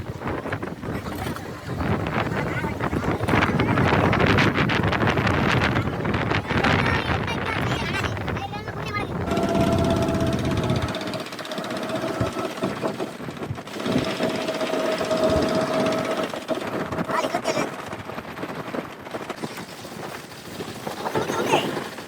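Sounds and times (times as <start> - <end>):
boat engine whining and knocking: 0.0 - 22.0.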